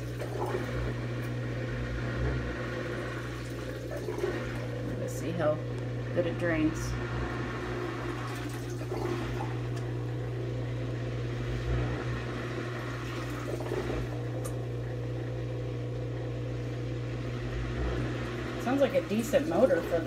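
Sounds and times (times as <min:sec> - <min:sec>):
washing machine drain pump humming: 0:00.0 - 0:20.0.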